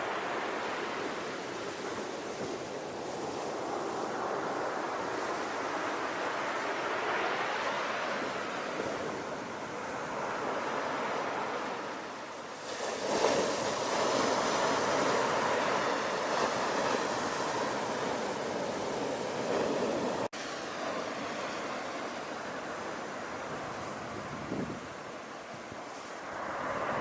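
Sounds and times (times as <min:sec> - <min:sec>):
breaking surf: 0:00.0 - 0:27.0
sea waves washing on shore: 0:00.0 - 0:27.0.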